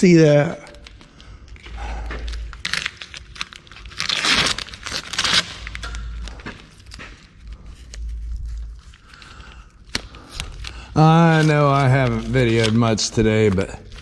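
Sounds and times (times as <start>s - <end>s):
paper and tape crinkling and tearing: 0.0s - 14.0s.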